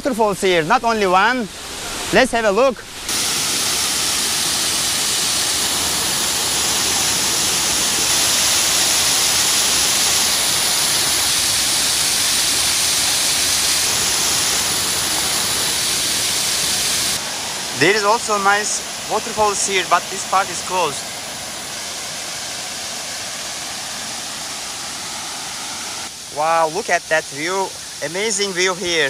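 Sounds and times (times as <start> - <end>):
waterfall pouring: 0.2 - 29.0.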